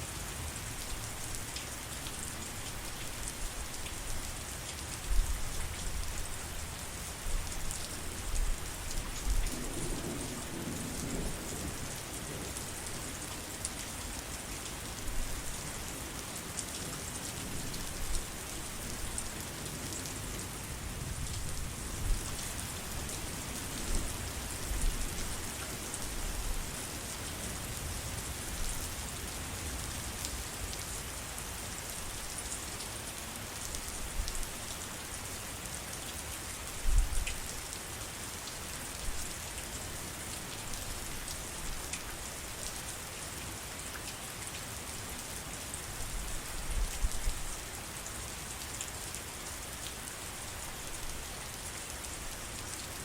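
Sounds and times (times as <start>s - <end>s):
heavy rain on foliage: 0.0s - 53.0s.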